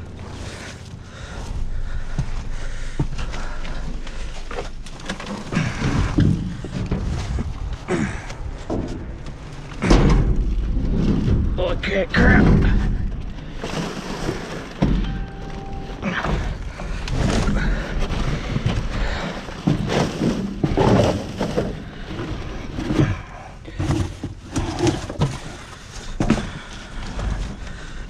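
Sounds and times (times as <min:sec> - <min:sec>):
thumps and clatter in dumpster: 0:04.4 - 0:28.0.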